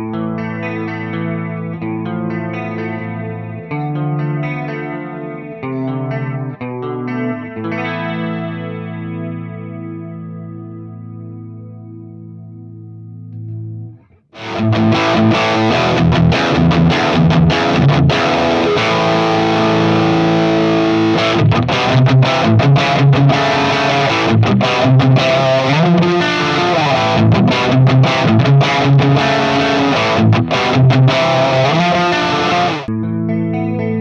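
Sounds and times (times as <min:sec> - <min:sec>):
clean electric guitar: 0:00.0 - 0:34.0
distorted electric guitar: 0:00.0 - 0:34.0.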